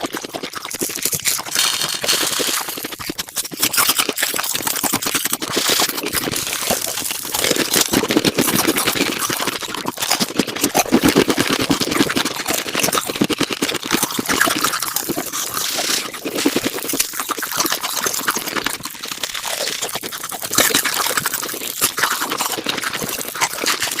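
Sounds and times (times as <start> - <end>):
sped-up chewing and mouth sounds: 0.0 - 24.0.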